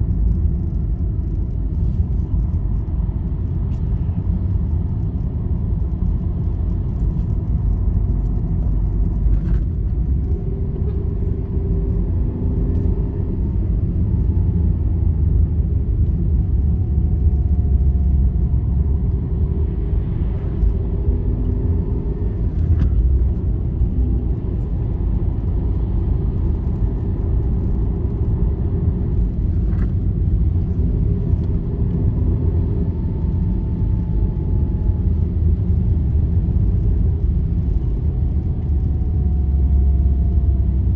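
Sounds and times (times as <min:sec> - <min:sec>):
vehicle engine and tyres rumbling: 0:00.0 - 0:40.9.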